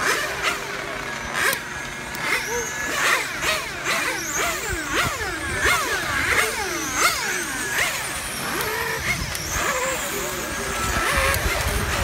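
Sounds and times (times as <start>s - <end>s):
electric rc car motors whining: 0.0s - 12.0s.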